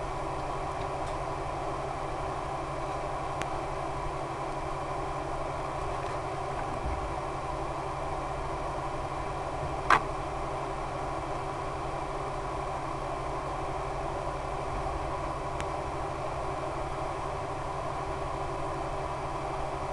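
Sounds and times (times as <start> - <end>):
low drone hum: 0.0 - 19.9.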